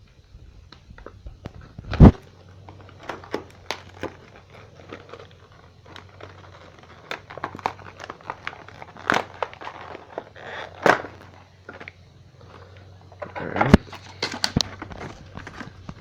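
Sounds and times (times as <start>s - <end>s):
plastic clicks: 0.0s - 16.0s
packaging crinkling and rustling: 0.6s - 16.0s.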